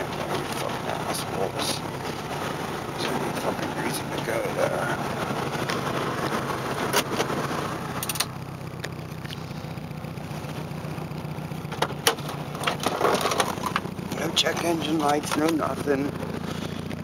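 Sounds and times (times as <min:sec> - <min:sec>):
misfiring engine: 0:00.0 - 0:17.0
road noise: 0:00.0 - 0:17.0.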